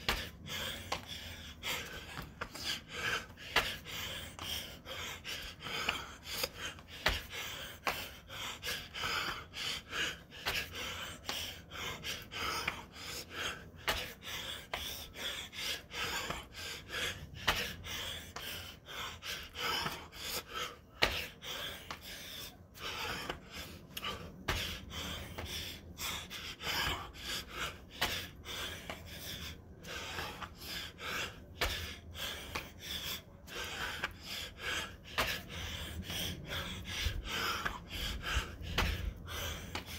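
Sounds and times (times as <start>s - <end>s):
man panting hard: 0.0s - 39.9s.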